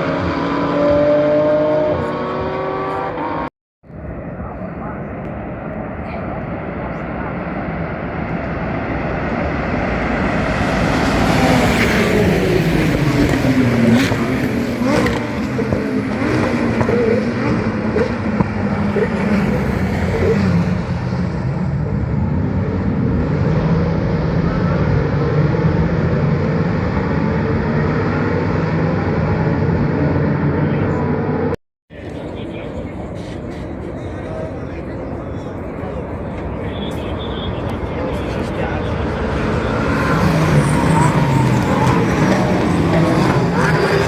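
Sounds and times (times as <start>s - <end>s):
racing cars passing at speed: 0.0s - 44.0s.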